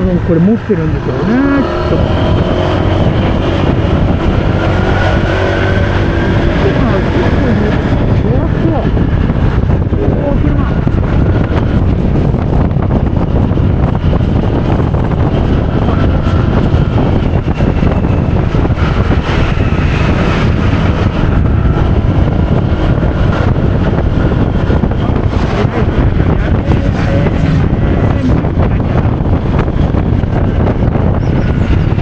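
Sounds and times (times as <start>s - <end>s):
faint scooter engine whine: 0.0s - 32.0s
wind buffeting microphone: 0.0s - 32.0s.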